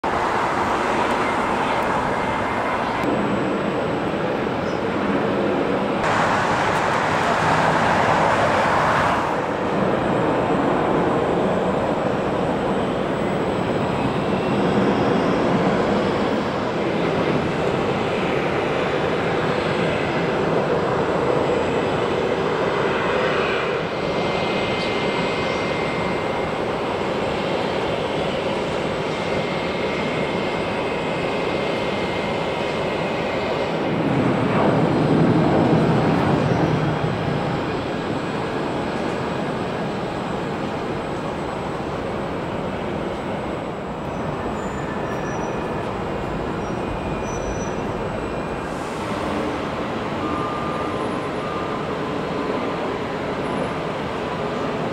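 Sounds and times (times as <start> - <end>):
jet engines on runway: 0.0 - 54.9.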